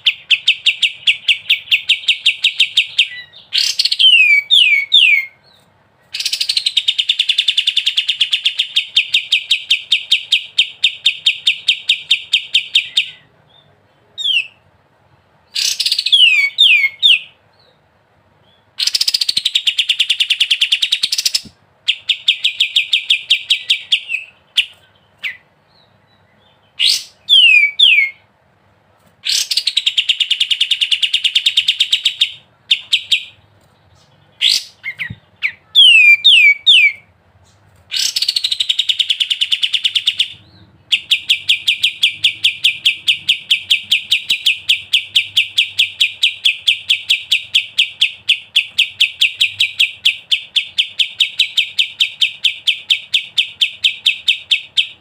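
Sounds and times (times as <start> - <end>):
songbird singing: 0.0 - 28.3, 29.2 - 55.0.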